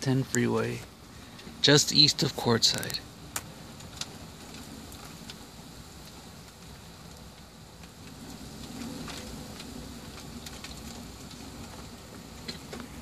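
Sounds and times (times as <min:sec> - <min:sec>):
low steady rumble: 0:00.0 - 0:13.0
raindrops ticking on window: 0:01.5 - 0:13.0.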